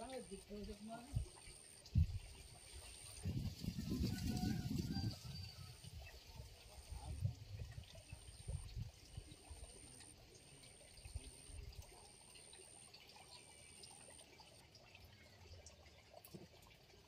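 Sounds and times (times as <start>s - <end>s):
faint trickling water: 0.0s - 17.0s.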